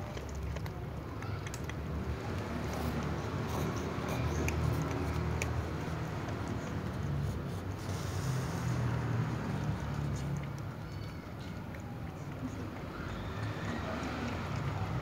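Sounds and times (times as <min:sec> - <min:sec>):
cats crunching dry kibble: 0:00.0 - 0:15.0.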